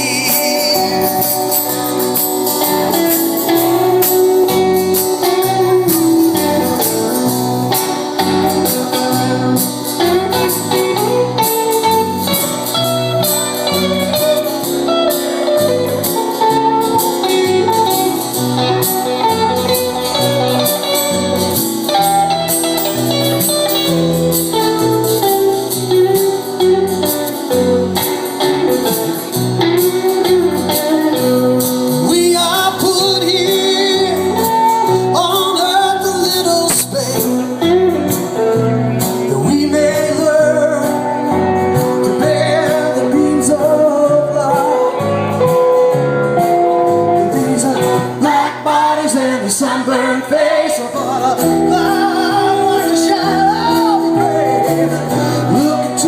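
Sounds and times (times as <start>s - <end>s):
bass line: 0.0s - 49.6s
guitar: 0.0s - 56.0s
live band playing: 0.0s - 56.0s.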